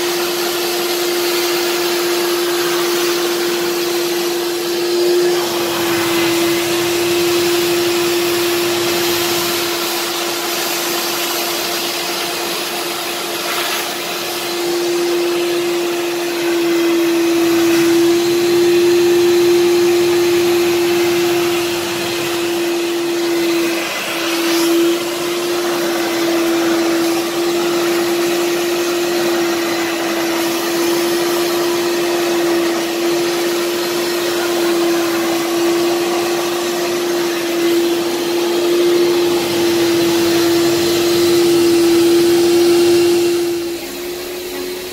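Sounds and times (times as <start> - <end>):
suction motor whining: 1.4 - 44.9.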